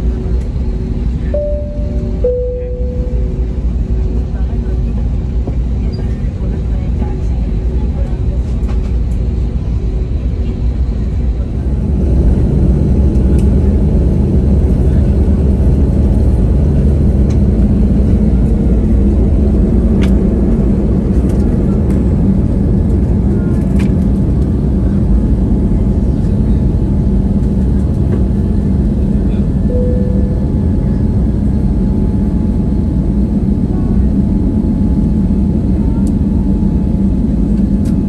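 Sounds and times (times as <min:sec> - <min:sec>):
jet engine rumble in cabin: 0:00.0 - 0:38.0.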